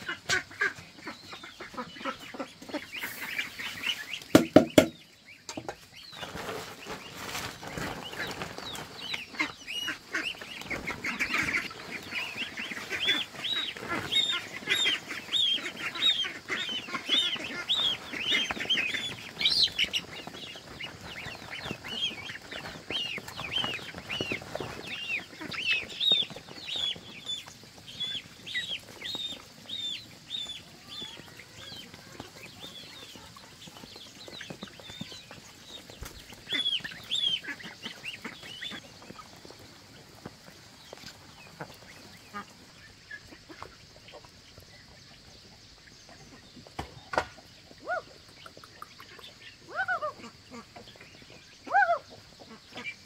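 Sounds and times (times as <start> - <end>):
chickens calling: 0.0 - 53.0.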